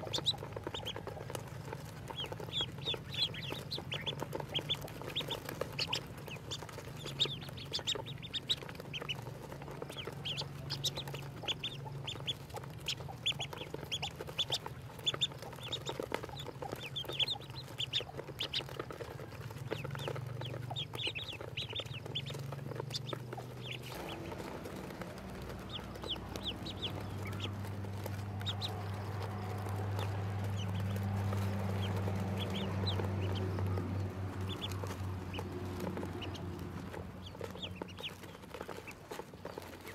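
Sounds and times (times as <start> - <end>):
ducklings peeping: 0.0 - 39.9
low steady hum: 0.0 - 39.9.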